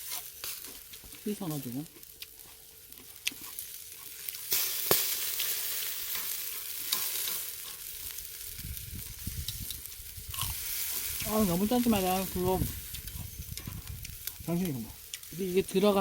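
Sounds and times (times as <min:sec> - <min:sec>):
food sizzling on a grill: 0:00.0 - 0:16.0.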